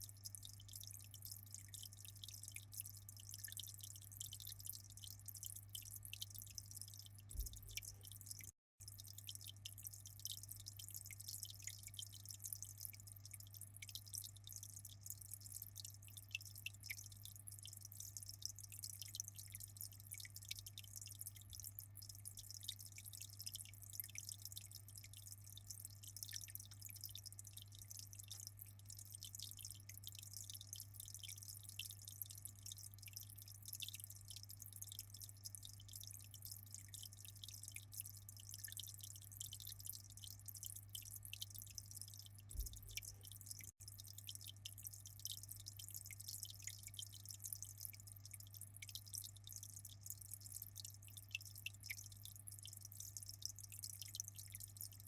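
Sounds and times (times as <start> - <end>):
aquarium water dripping: 0.0 - 55.0.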